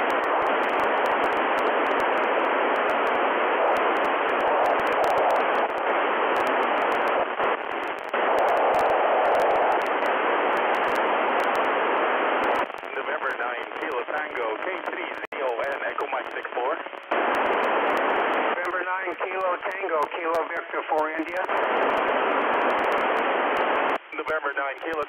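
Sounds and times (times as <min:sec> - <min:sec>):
radio static hiss: 0:00.0 - 0:25.0.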